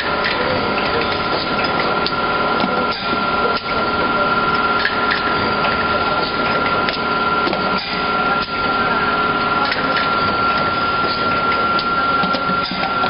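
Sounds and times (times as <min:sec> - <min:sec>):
machine running with high whine: 0:00.0 - 0:13.0.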